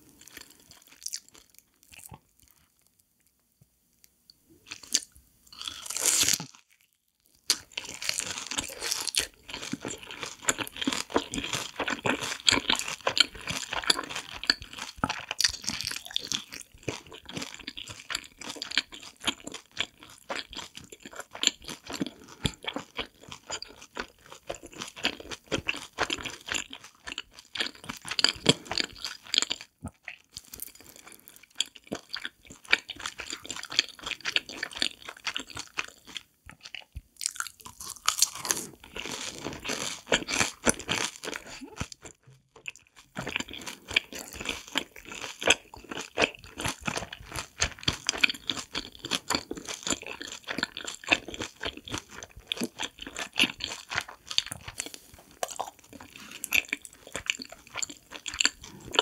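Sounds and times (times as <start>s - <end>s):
crunching and chewing: 0.0s - 2.9s, 4.7s - 59.0s.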